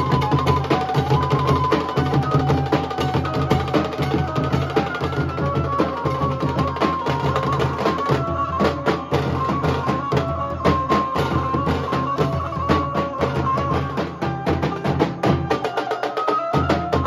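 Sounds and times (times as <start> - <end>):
drums beaten with sticks: 0.0 - 17.0.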